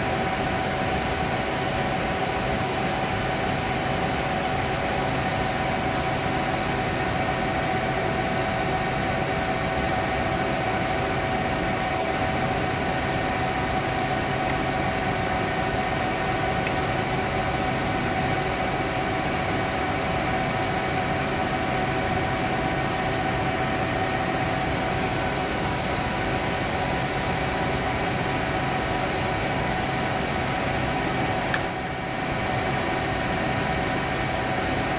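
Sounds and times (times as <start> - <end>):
steady mechanical hum: 0.0 - 34.9.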